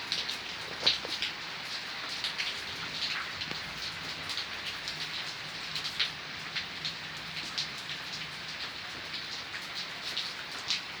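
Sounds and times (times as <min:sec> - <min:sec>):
raindrops pattering on hard surface: 0:00.0 - 0:11.0.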